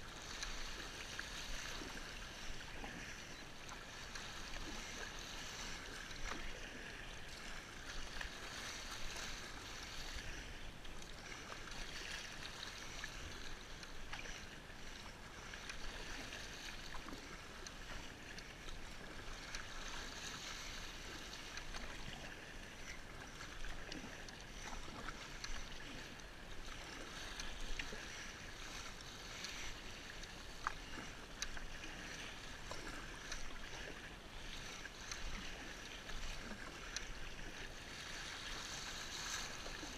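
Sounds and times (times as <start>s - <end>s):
water rushing along kayak hull: 0.0s - 39.9s.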